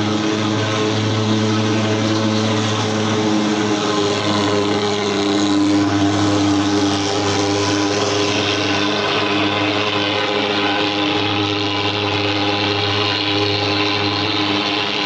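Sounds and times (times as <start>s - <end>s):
pulse-jet engine droning: 0.0s - 15.0s.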